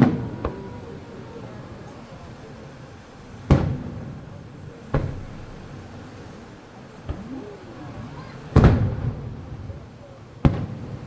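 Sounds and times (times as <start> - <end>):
firework booms: 0.0 - 6.2, 6.9 - 11.0
crowd murmur: 0.0 - 11.0.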